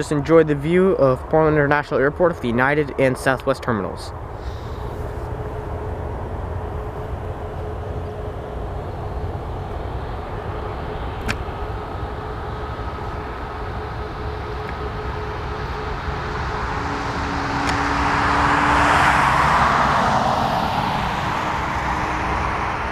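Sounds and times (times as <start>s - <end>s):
distant jet engines rumbling: 0.0s - 22.9s
high whine: 0.0s - 22.9s
steady tone: 0.0s - 22.9s.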